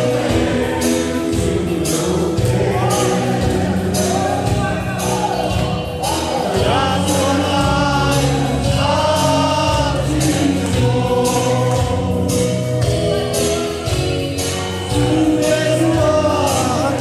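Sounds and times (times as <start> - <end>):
man singing into microphone: 0.0 - 5.2, 6.1 - 12.7, 14.8 - 17.0
bass and drum beat: 0.0 - 17.0
crowd singing along: 0.0 - 17.0.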